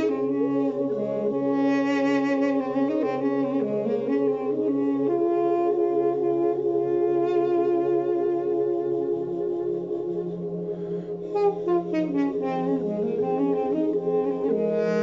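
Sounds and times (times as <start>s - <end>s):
duduk playing slow melody: 0.0s - 15.0s
steady low drone tone: 0.0s - 15.0s.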